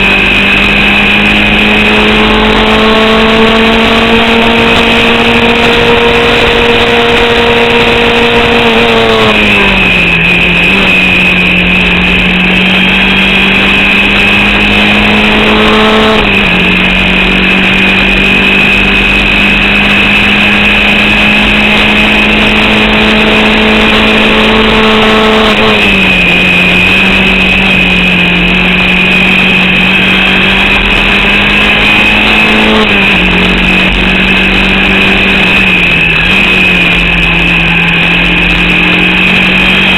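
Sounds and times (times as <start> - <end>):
racing car engine at full throttle: 0.0 - 39.9
steady high whine: 0.0 - 39.9.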